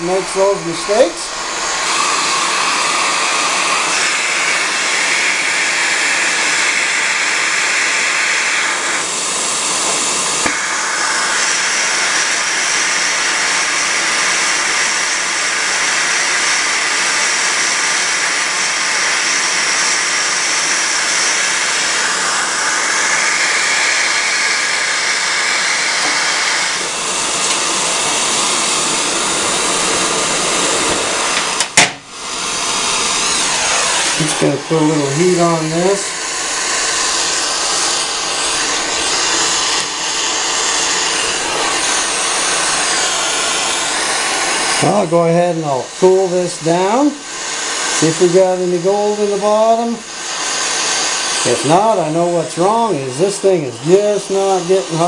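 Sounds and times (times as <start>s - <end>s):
propane torch rushing hiss: 0.0s - 55.0s.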